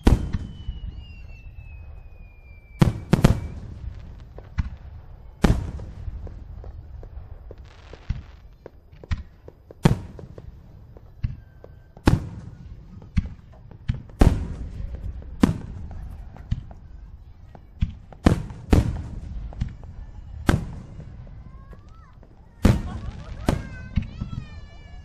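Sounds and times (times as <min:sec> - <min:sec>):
firework shells bursting with bangs: 0:00.0 - 0:25.0.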